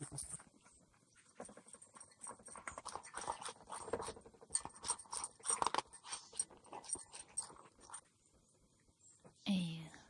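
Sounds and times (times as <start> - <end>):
dog eating and chewing: 0.0 - 8.2.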